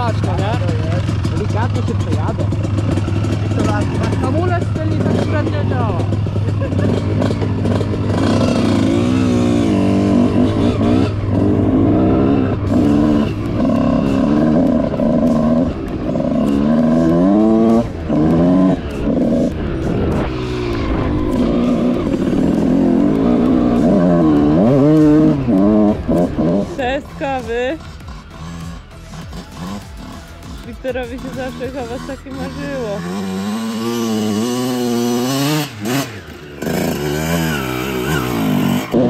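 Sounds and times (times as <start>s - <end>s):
motocross bike engine revving: 0.0s - 39.0s.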